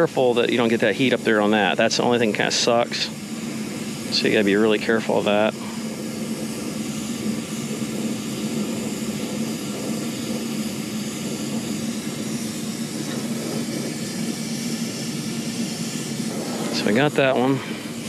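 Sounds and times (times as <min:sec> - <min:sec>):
constant low hum: 0:00.0 - 0:18.0
torch flame hissing: 0:00.0 - 0:18.0.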